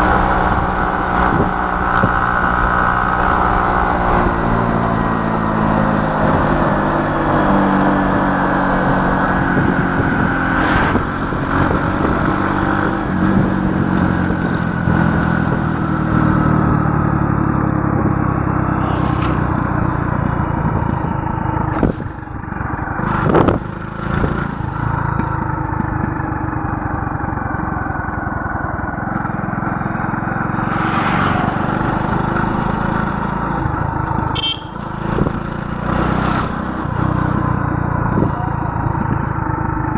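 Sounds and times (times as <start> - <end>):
vehicle engine running: 0.0 - 7.1, 8.0 - 39.9.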